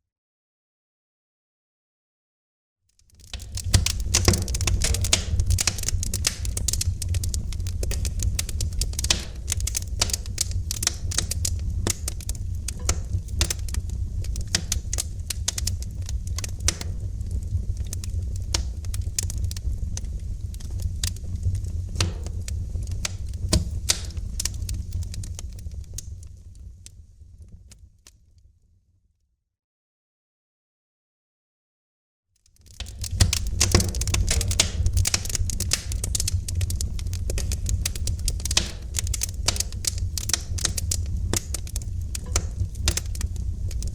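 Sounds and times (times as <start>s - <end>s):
wood fire crackling: 3.0s - 28.2s, 32.4s - 43.9s.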